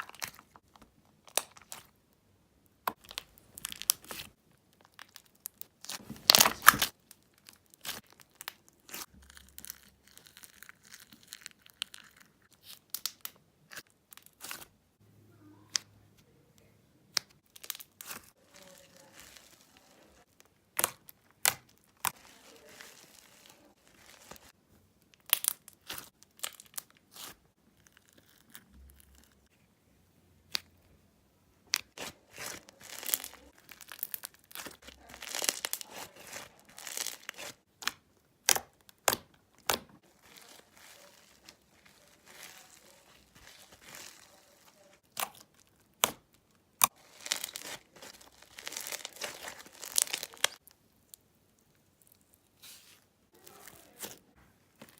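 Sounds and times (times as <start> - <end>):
crunchy slime crackling and popping: 2.8 - 14.7, 17.2 - 29.5, 31.7 - 54.9.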